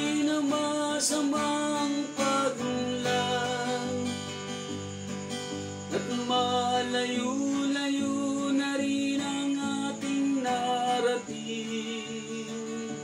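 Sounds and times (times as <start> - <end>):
man singing: 0.0 - 4.5, 5.9 - 13.0
acoustic guitar strumming: 0.0 - 13.0.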